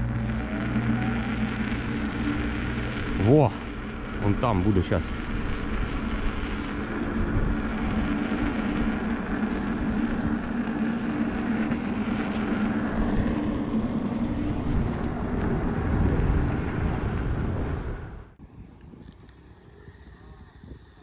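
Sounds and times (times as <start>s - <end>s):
steady low hum: 0.0s - 21.0s
wind rushing over microphone: 0.0s - 21.0s.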